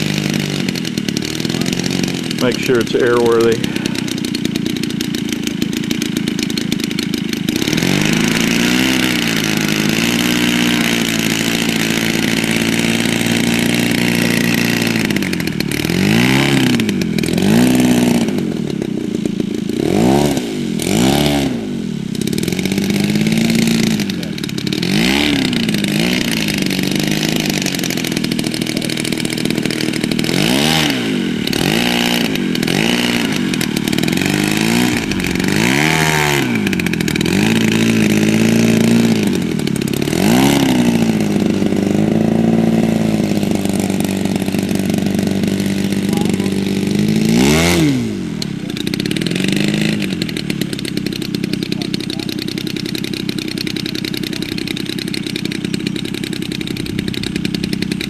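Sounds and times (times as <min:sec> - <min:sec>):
model airplane engine revving: 0:00.0 - 0:58.0.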